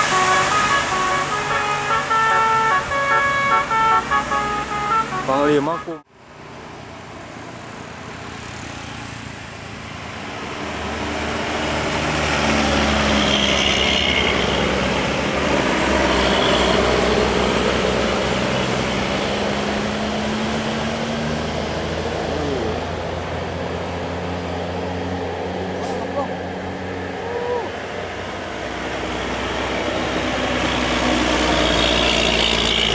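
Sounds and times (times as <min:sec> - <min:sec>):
bus driving past: 0:00.0 - 0:32.9.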